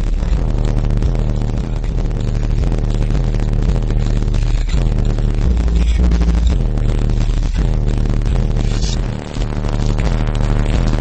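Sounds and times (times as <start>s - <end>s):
hip-hop with heavy bass: 0.0s - 11.0s.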